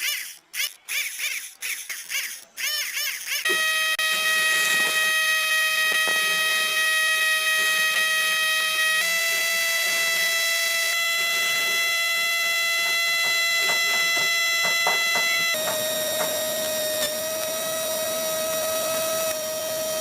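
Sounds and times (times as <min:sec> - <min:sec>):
small motor whining: 0:00.0 - 0:20.0.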